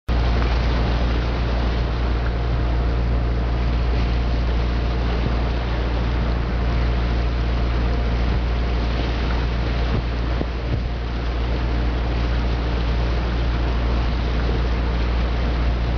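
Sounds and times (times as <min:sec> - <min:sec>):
motor boat engine droning: 0:00.1 - 0:15.9.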